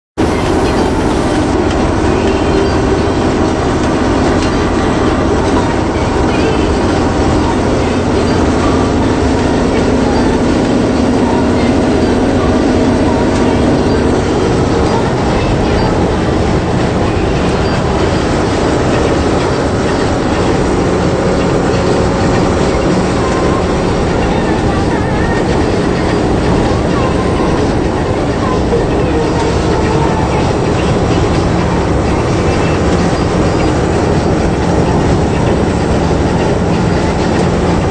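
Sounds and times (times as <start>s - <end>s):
lorry engine drone: 0.2s - 37.9s
road and rolling noise: 0.2s - 37.9s.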